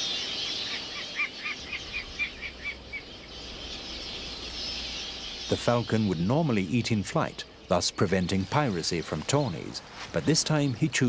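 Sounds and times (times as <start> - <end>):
flock of birds twittering: 0.0 - 11.0.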